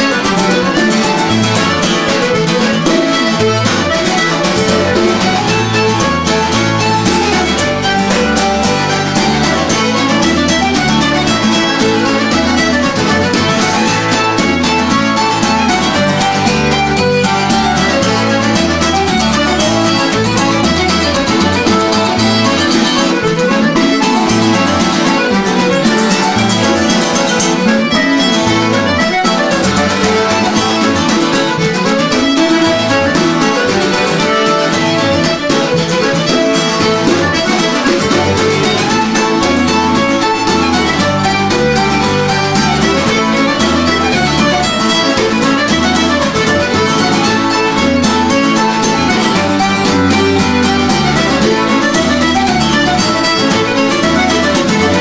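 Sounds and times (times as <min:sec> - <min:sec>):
acoustic guitar strumming: 0:00.0 - 0:55.0
button accordion melody: 0:00.0 - 0:55.0.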